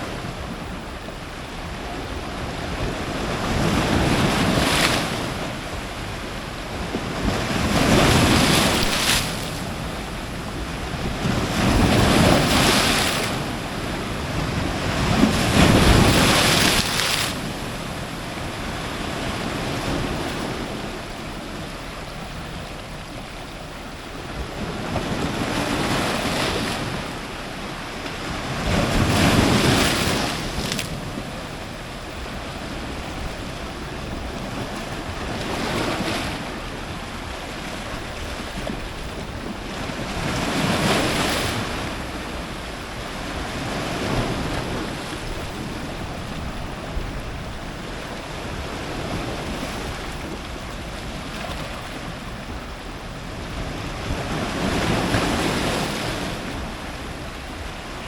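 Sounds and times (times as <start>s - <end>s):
surf washing on rocks: 0.0s - 58.0s
waves crashing: 0.0s - 58.0s.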